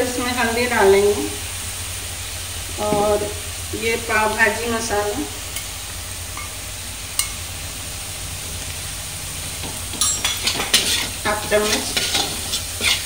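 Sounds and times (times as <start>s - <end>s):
onion frying in oil: 0.0s - 13.0s.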